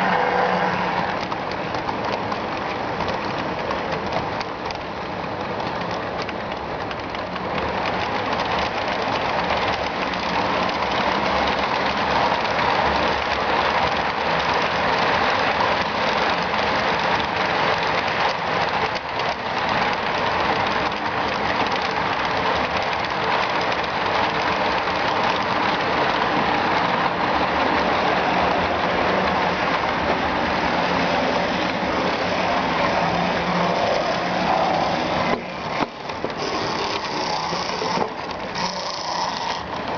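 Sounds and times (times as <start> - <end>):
model train motor whirring: 0.0 - 39.9
wheels rolling on rails: 0.0 - 39.9.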